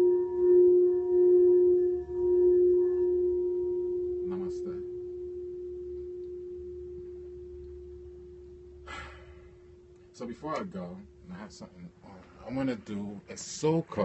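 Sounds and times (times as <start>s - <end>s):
singing bowl ringing: 0.0s - 12.0s.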